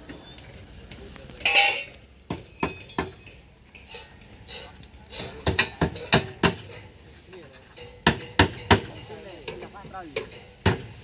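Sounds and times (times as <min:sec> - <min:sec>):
metal tools clinking on steel: 0:01.4 - 0:10.6.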